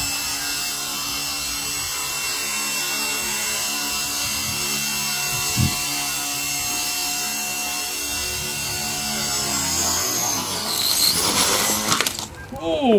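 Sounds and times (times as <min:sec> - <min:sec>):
rc helicopter motors whining: 0:00.0 - 0:12.6
rotors buzzing: 0:00.0 - 0:12.6.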